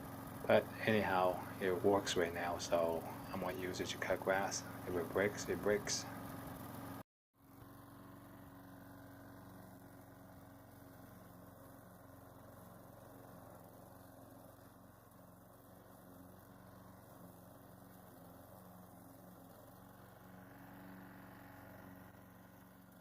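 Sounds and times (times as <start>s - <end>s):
faint lawn mower engine running: 0.0s - 23.0s.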